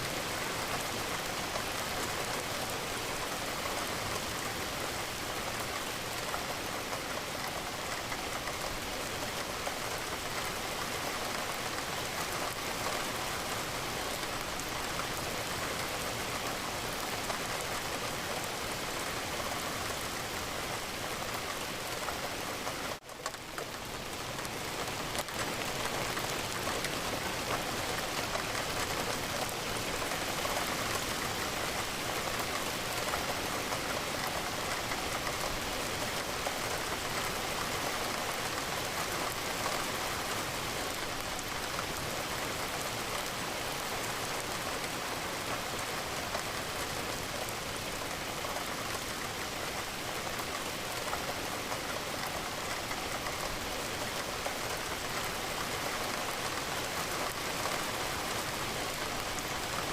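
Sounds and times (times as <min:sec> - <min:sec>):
rain on a window: 0:00.0 - 0:59.9.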